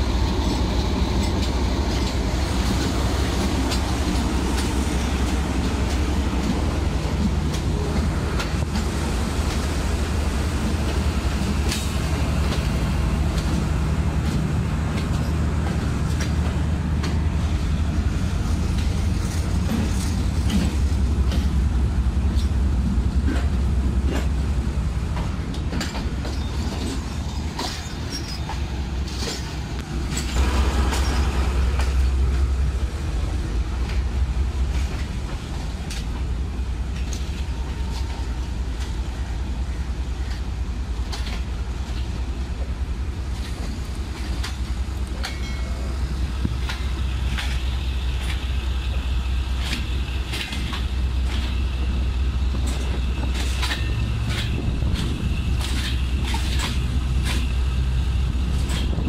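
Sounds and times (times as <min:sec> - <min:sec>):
train coaches rumbling: 0:00.0 - 0:59.0.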